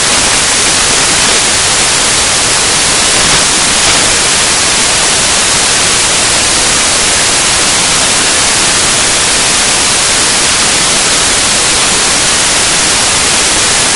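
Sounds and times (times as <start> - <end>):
loud static hiss: 0.0 - 13.9.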